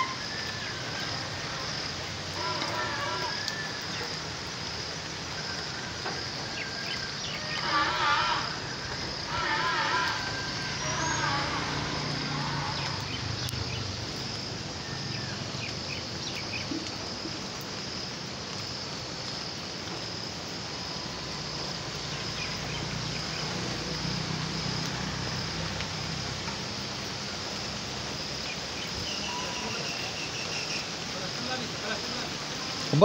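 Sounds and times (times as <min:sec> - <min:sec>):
heavy rain on water: 0:00.0 - 0:33.0
high-pitched insect trill: 0:00.0 - 0:33.0.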